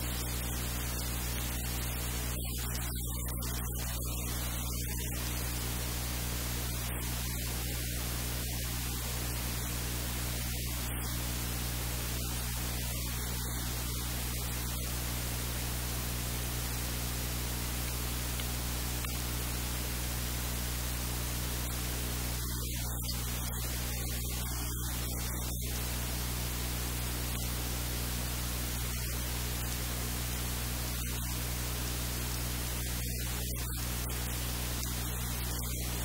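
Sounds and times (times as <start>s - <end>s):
low electrical hum: 0.0s - 36.0s
static hiss: 0.0s - 36.0s.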